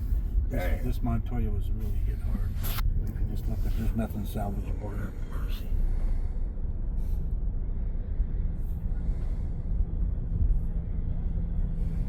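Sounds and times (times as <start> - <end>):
car engine and tyres rumbling: 0.0 - 12.0
faint steady hum: 0.0 - 12.0.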